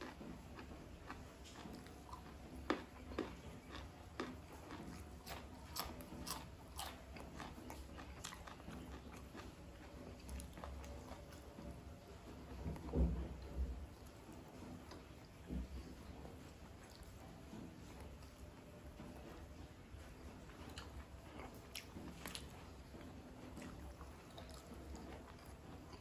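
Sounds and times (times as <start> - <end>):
chewing food: 0.0 - 26.0.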